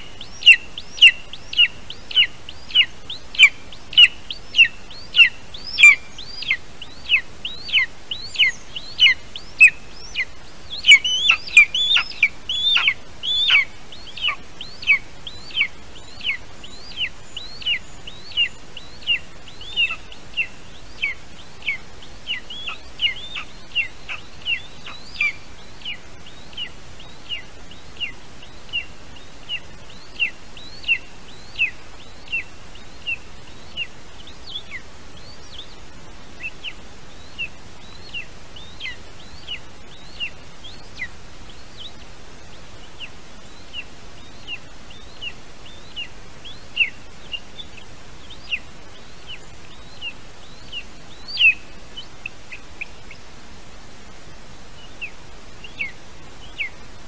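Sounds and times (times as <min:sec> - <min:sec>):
eaglet begging chirps: 0:00.0 - 0:53.2, 0:54.8 - 0:56.8.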